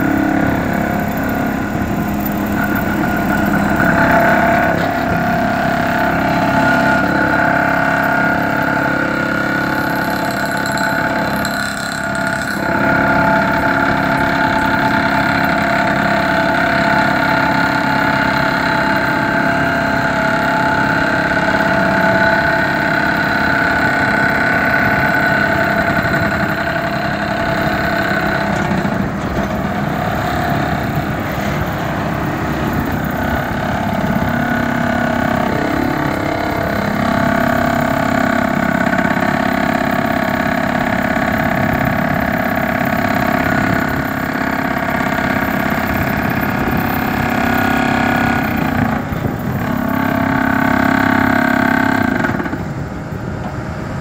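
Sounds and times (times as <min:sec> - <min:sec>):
excavator engine and hydraulics humming: 0:00.0 - 0:54.0.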